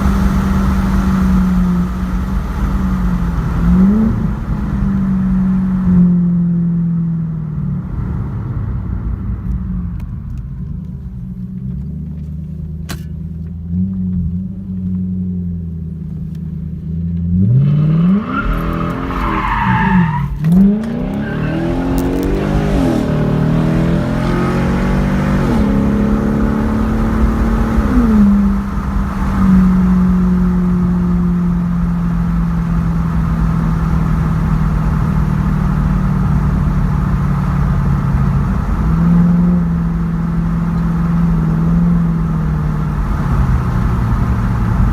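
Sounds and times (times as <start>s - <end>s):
car exhaust drone while accelerating: 0.0s - 44.9s.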